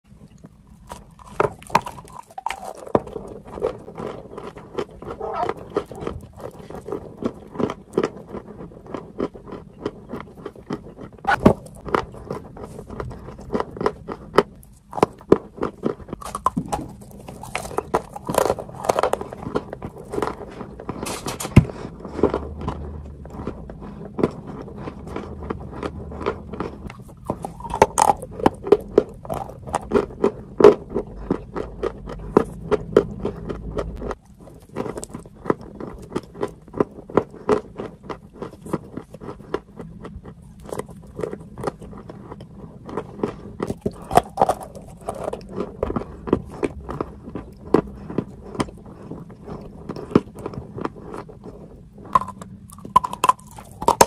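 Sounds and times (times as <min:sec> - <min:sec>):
chewing crunchy chalk: 0:00.1 - 0:54.0.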